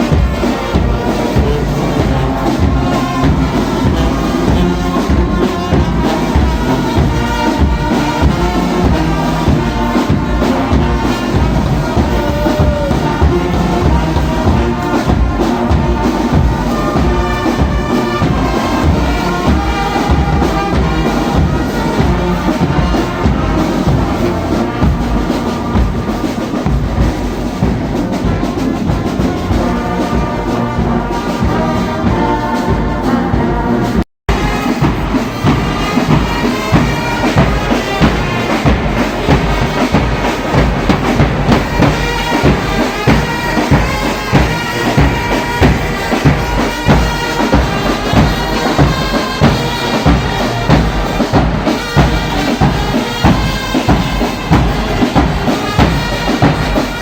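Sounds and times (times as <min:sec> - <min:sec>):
steady drum beat: 0:00.0 - 0:57.0
trumpets and trombones: 0:00.0 - 0:57.0.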